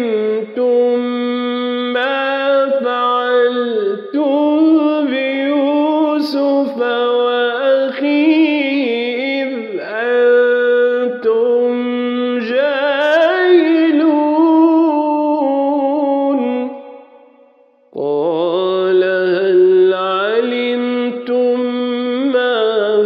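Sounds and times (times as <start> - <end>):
man chanting recitation: 0.0 - 16.8, 18.0 - 23.0.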